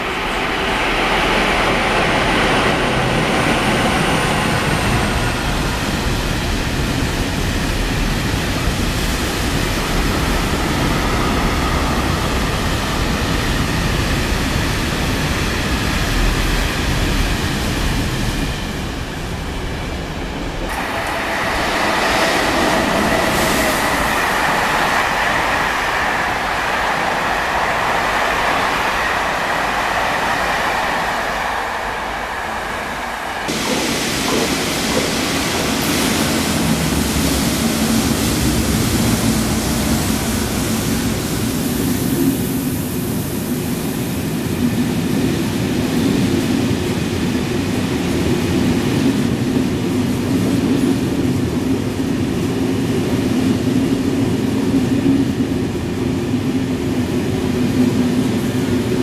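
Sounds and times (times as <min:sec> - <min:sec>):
freight train rumbling: 0:00.0 - 0:59.0
passenger train high whine: 0:00.0 - 0:59.0.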